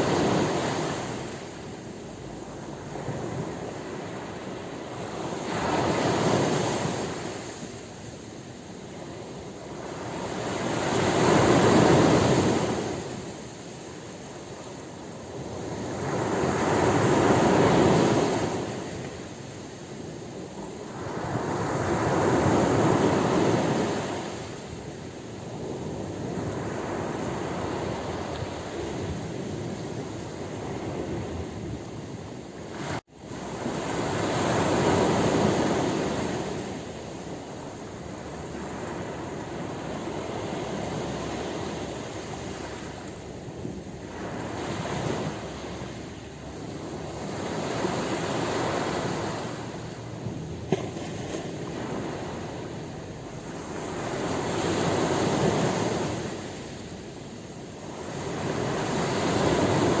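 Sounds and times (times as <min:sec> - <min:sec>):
ocean waves surging: 0:00.0 - 1:00.0.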